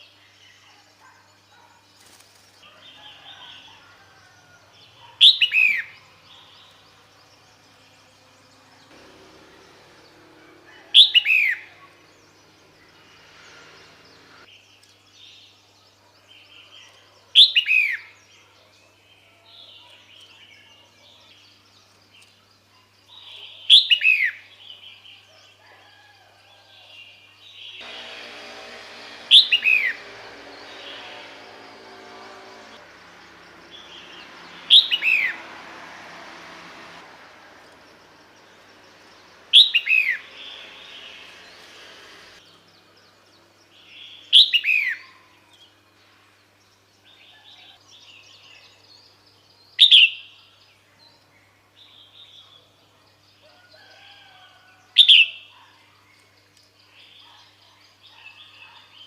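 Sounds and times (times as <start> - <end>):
bird chirping calls: 0.0 - 25.3, 27.0 - 59.0.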